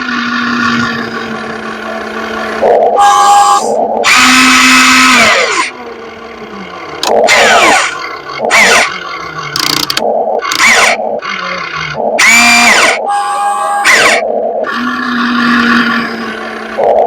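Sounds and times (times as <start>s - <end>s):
toy excavator motor whining: 0.0s - 17.0s.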